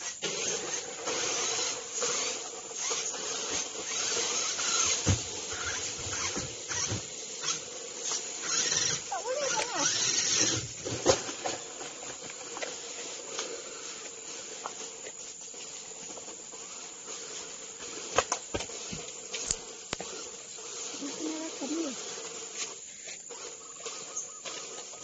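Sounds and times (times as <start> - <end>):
small electric motors buzzing: 0.0 - 25.0
toy truck tumbling clatter: 0.0 - 25.0.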